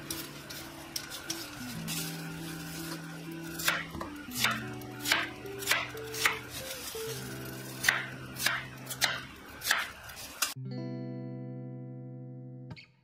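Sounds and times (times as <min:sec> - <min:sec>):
soft background music: 0:00.0 - 0:12.6.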